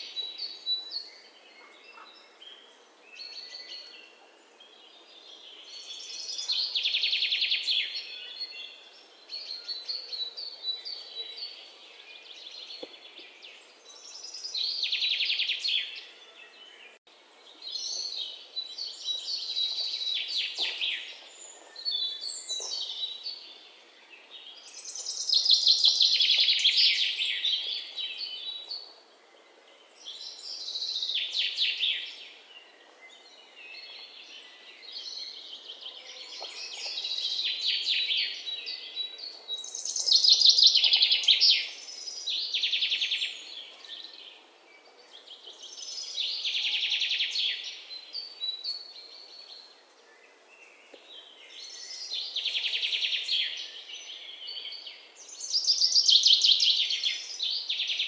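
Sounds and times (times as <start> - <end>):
faint outdoor background noise: 0.0 - 58.0.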